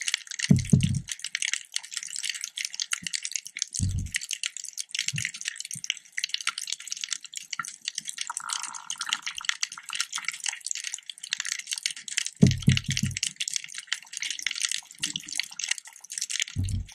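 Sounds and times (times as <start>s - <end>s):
crackle of tiny clicks underwater: 0.0s - 16.9s.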